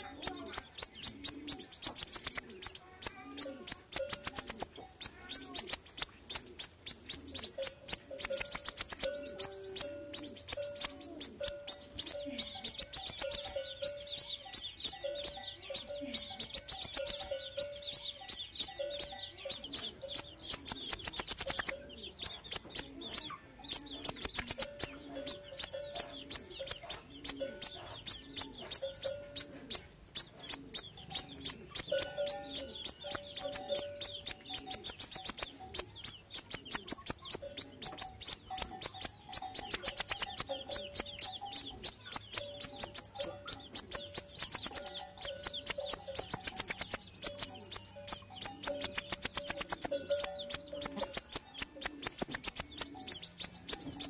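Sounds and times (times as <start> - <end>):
bird high-pitched ticking chips: 0.0 - 54.0
lower whistled bird notes: 3.6 - 54.0.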